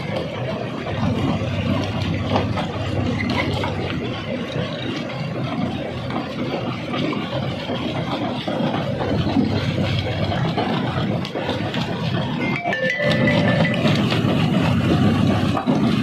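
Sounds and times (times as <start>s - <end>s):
rock-crushing machinery running: 0.0s - 16.0s.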